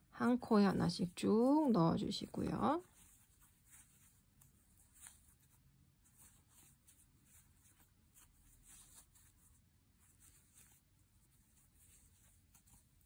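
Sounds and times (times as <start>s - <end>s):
yarn scratching and rustling: 0.2s - 13.0s.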